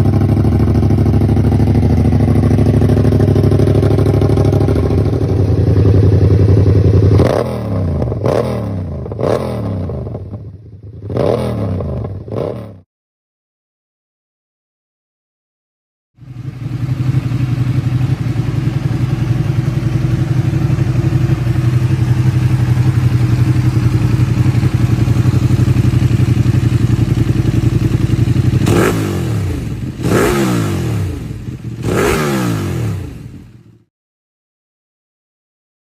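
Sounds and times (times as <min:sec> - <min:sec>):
motorcycle engine idling: 0:00.0 - 0:11.2, 0:16.2 - 0:33.8
motorcycle engine revving: 0:00.0 - 0:12.8, 0:16.2 - 0:33.9.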